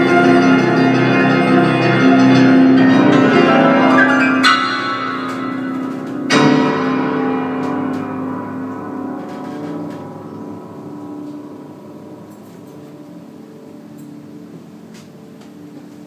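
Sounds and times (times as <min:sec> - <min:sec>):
grand piano chords: 0:00.0 - 0:16.0.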